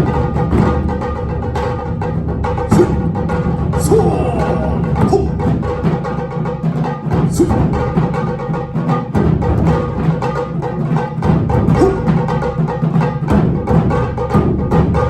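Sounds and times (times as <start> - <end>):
driving drum beat: 0.0 - 15.0.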